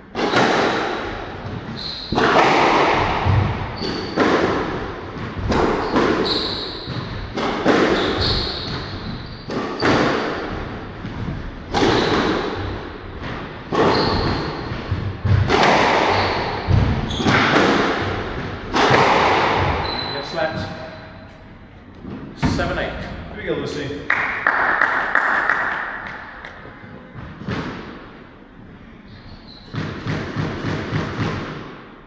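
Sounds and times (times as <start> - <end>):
squash ball hitting rackets and walls: 0.0 - 23.2, 24.1 - 32.0
court shoes squeaking: 0.0 - 24.2, 24.9 - 30.7.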